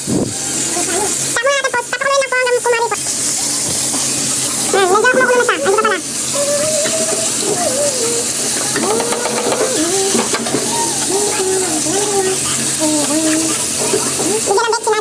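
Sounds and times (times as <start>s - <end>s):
voices talking: 0.3s - 15.0s
food sizzling in a pan: 2.1s - 14.9s.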